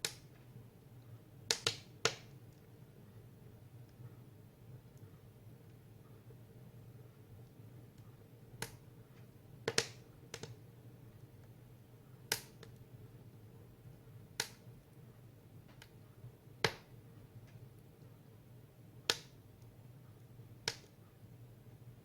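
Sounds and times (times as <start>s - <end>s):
faint low hum: 0.0s - 22.0s
firewood crackling in a stove: 0.0s - 22.0s.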